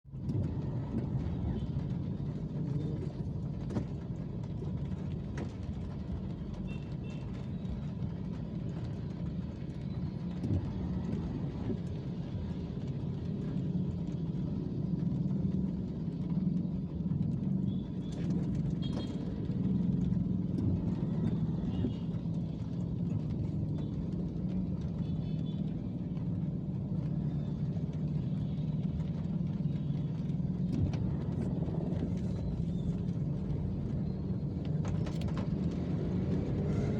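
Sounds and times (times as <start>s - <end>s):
rain: 0.0s - 36.9s
traffic on wet street: 0.0s - 36.9s.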